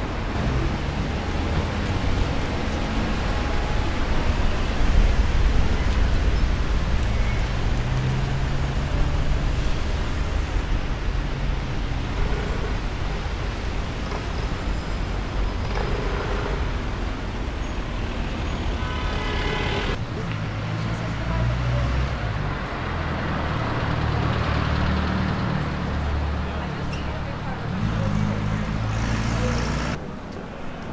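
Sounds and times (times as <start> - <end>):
city traffic passing: 0.0 - 30.9.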